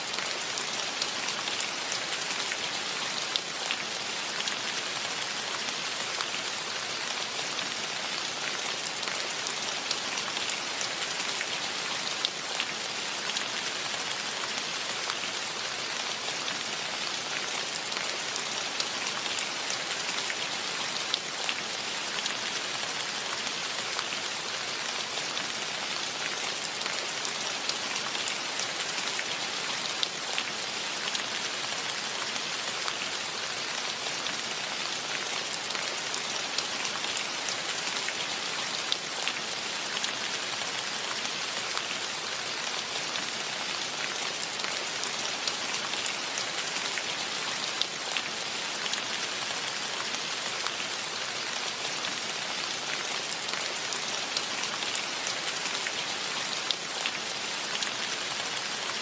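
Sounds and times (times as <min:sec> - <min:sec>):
rain: 0:00.0 - 0:59.0.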